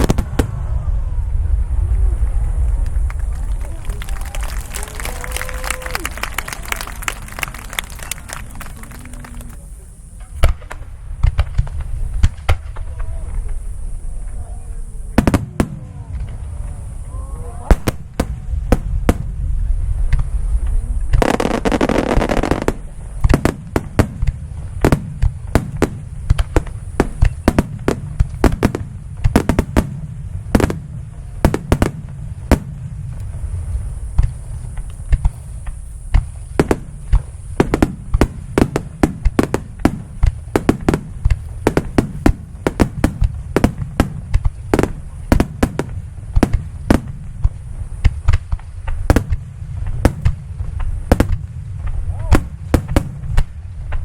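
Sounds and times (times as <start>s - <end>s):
low rumble: 0.0s - 54.0s
dense hissing: 8.6s - 53.6s.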